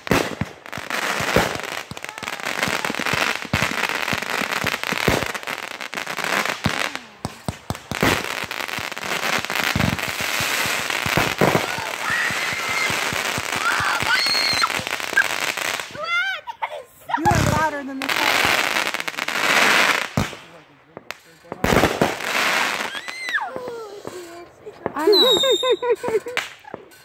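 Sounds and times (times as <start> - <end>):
fireworks crackling: 0.0 - 27.0
fireworks popping: 0.0 - 27.0.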